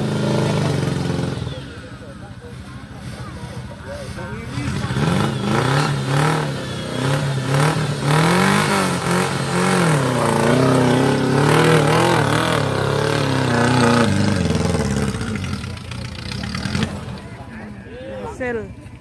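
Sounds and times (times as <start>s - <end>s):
engine revving: 0.0s - 17.6s.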